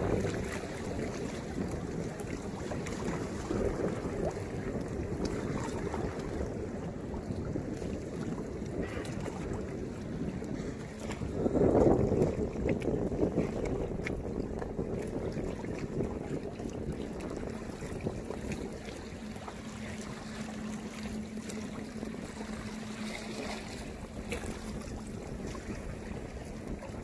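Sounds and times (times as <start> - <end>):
water splashing against hull: 0.0 - 27.0
wind buffeting microphone: 0.0 - 27.0.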